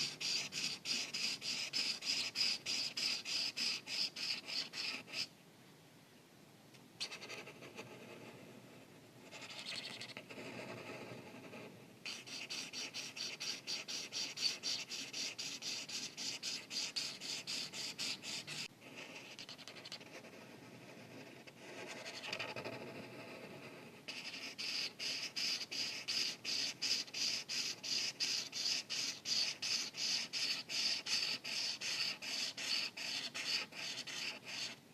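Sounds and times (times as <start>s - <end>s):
marker rubbing on paper: 0.0s - 5.3s, 7.0s - 8.4s, 9.2s - 34.8s.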